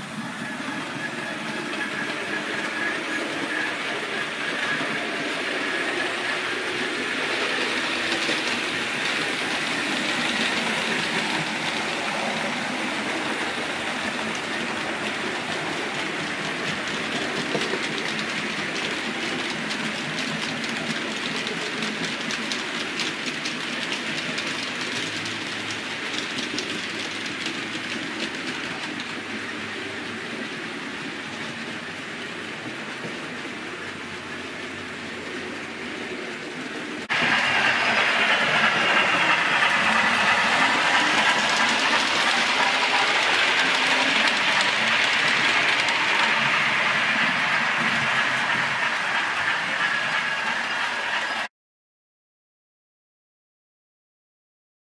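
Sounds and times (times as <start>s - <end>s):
model trains rattling on track: 0.0s - 51.5s
wheels clicking over rail joints: 0.6s - 51.5s.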